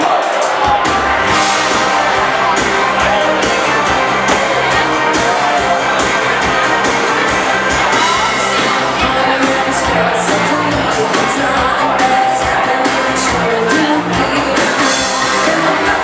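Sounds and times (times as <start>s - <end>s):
live dance band playing: 0.0s - 16.0s.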